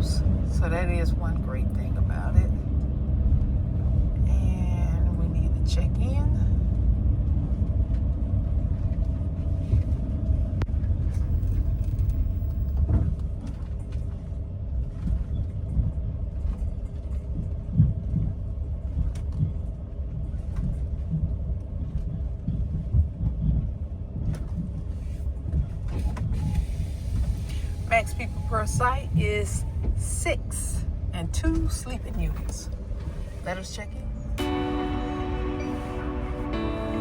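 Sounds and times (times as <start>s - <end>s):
engine and road rumble: 0.0s - 37.0s.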